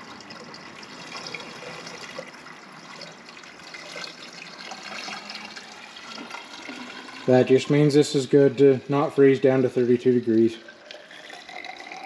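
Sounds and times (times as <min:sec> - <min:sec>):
fluid pouring from a jug: 0:00.0 - 0:12.0.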